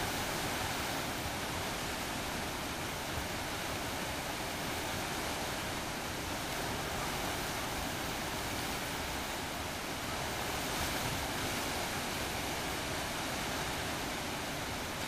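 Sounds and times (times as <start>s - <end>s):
white water rushing: 0.0s - 15.0s.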